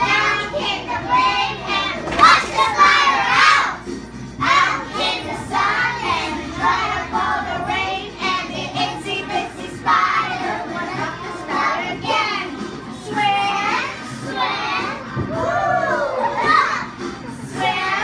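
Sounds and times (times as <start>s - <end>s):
young children singing: 0.0s - 18.0s.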